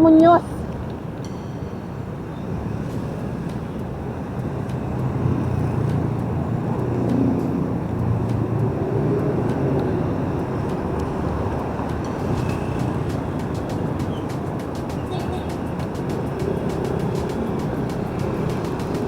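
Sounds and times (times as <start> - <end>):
low engine rumble: 0.0 - 19.0
vehicles passing close by: 0.0 - 19.0.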